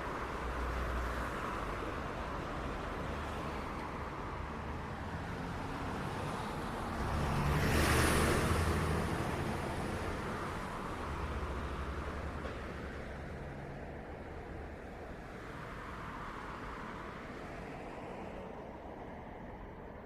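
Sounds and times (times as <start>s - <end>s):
hum of passing cars: 0.0s - 20.0s.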